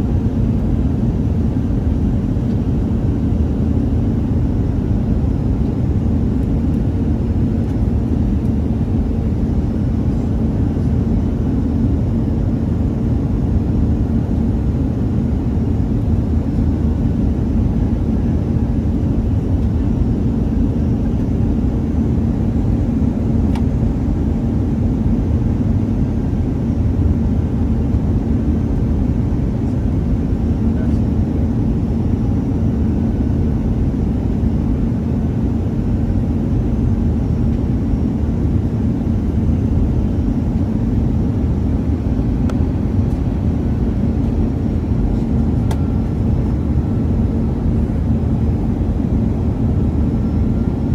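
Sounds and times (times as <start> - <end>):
jet engine cabin rumble: 0.0 - 50.9.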